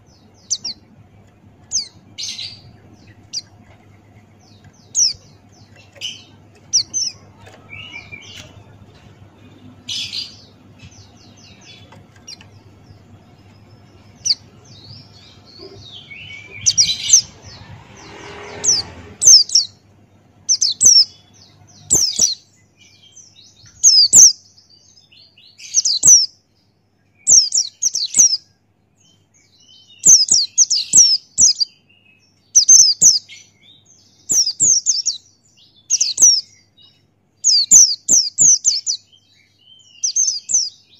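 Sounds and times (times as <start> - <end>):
bird calling and singing: 0.0 - 19.8, 20.4 - 40.9.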